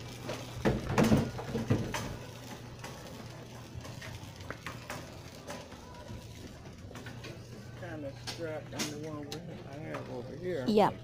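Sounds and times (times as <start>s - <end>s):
shopping cart rattling: 0.0s - 10.2s
low store hum: 0.0s - 11.0s.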